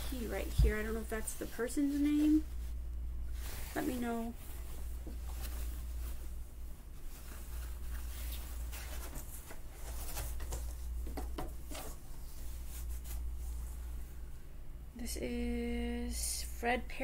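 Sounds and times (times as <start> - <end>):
shirt rustling being folded: 0.0 - 14.2
steady low hum: 0.0 - 17.0.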